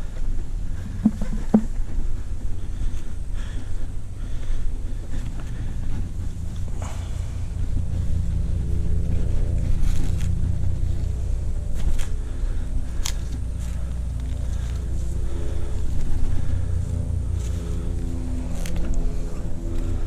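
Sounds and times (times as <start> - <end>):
motor rumbling: 0.0 - 20.0.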